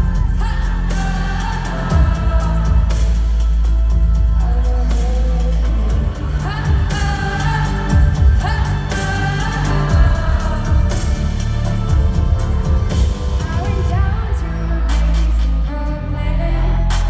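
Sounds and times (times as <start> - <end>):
heavy bass: 0.0 - 17.0
live pop music over sound system: 0.0 - 17.0
woman singing: 0.0 - 17.0.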